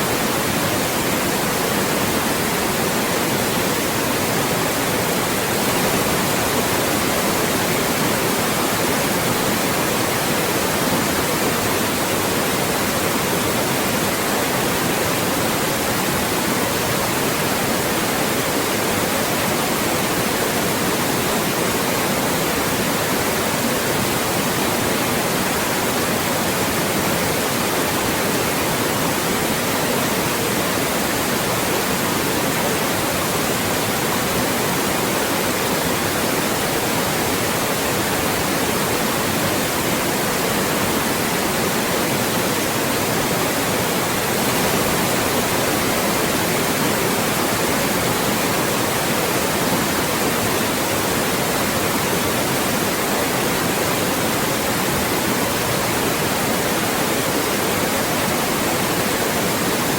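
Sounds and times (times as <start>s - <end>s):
loud white noise: 0.0s - 59.9s.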